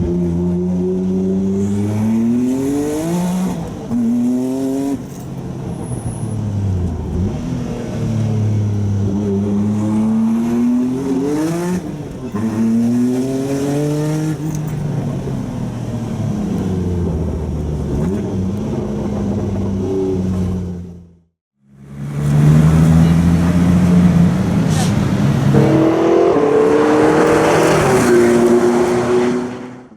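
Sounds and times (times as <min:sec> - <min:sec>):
car engine accelerating: 0:00.0 - 0:29.9.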